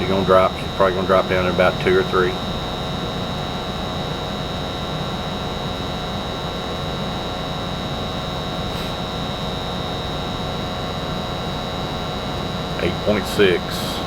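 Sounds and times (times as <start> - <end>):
furnace air rush and hum: 0.0 - 14.0
high-pitched whine: 0.0 - 14.0.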